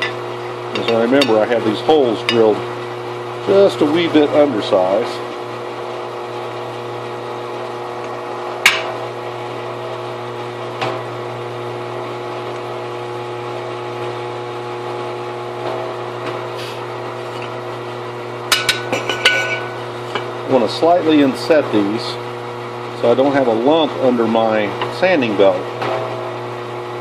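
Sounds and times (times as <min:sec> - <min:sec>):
drill press motor humming: 0:00.0 - 0:27.0.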